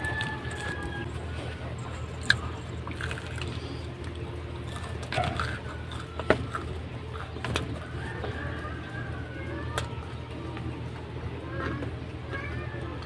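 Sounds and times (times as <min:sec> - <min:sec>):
chewing crispy fried chicken: 0:00.0 - 0:10.8.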